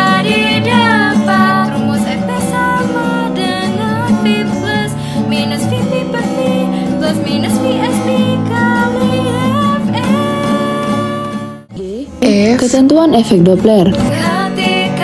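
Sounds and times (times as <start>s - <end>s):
girl singing: 0.0s - 11.6s, 13.8s - 15.0s
instrumental backing: 0.0s - 15.0s.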